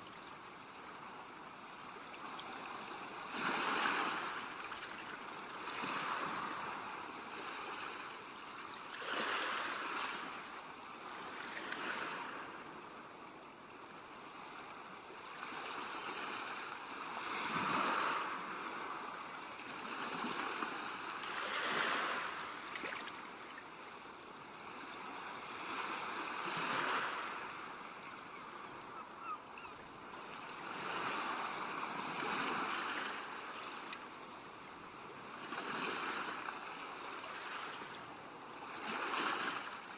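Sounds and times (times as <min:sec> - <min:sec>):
gentle waves washing ashore: 0:00.0 - 0:39.9.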